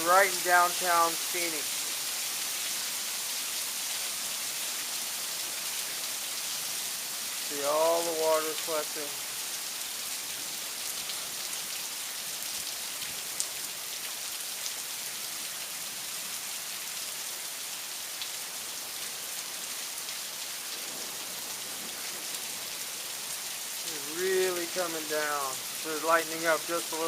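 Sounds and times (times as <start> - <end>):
rain drops ticking: 0.0 - 16.2, 19.1 - 27.0
heavy rain pouring: 0.0 - 27.0.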